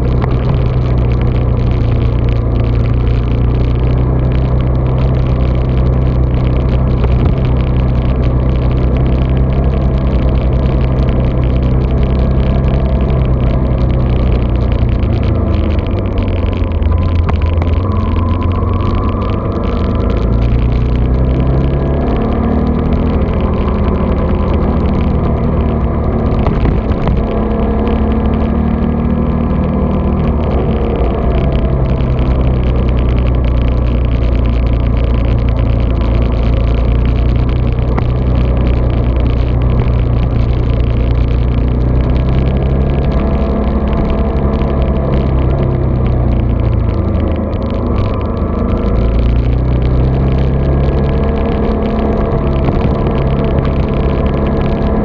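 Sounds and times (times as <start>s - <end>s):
muffled vehicle engine running: 0.0s - 55.0s
road and wind noise: 0.0s - 55.0s.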